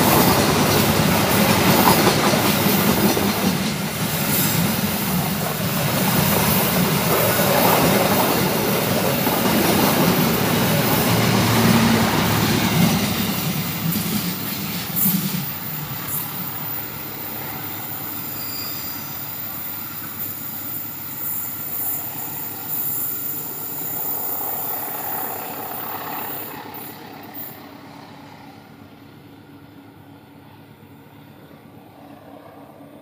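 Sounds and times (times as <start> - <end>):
train wheel squeal: 0.0 - 28.6
train coaches running on track: 0.0 - 33.0.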